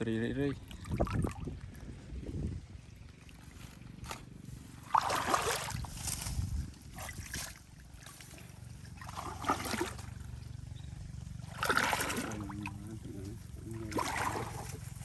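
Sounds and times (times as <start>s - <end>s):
water and mud splashing: 0.5s - 10.7s, 11.3s - 15.0s.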